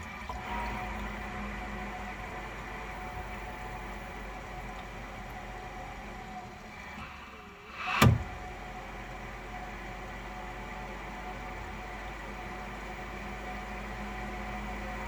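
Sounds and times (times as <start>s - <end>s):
water pump humming: 0.0s - 15.0s.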